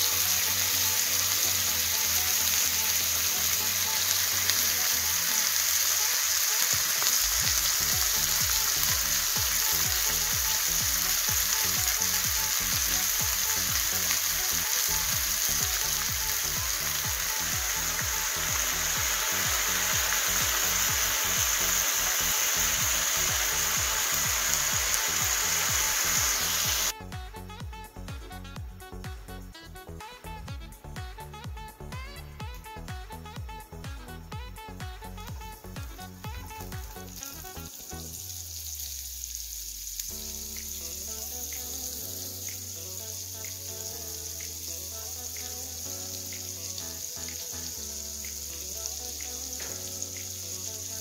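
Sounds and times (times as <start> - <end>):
chicken sizzling in frying pan: 0.0 - 26.9, 35.8 - 51.0.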